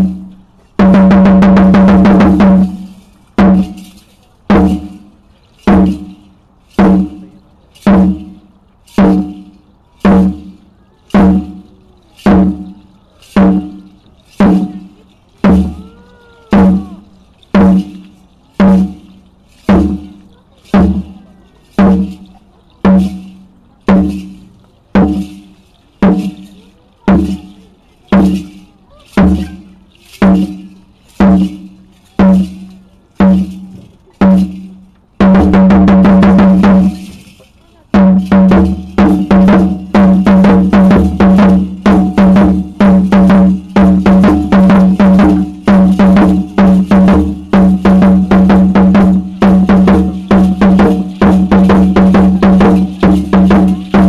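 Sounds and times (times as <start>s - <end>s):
large drum booming strokes: 0.0s - 27.5s, 28.1s - 37.4s, 38.0s - 54.0s.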